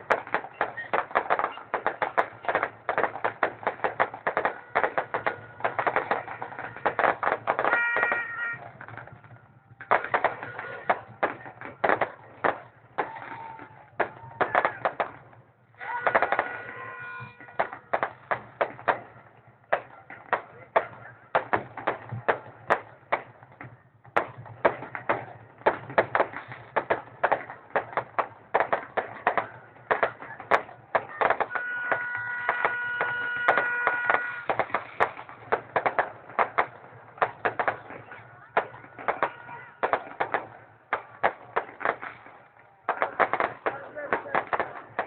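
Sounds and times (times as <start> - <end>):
fireworks banging and crackling: 0.0 - 45.0.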